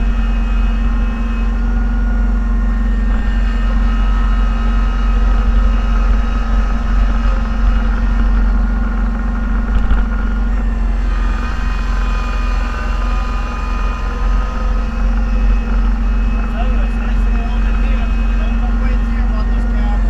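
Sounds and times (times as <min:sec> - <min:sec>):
faint high whining tones: 0:00.0 - 0:20.0
vehicle engine droning: 0:00.0 - 0:20.0.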